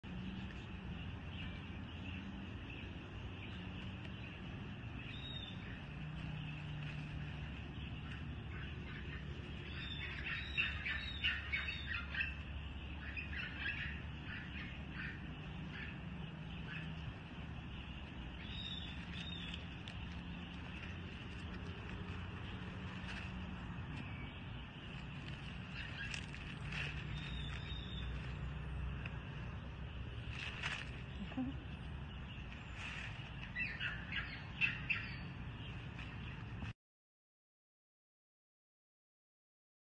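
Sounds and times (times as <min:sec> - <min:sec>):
high chirping calls: 0:00.1 - 0:36.4.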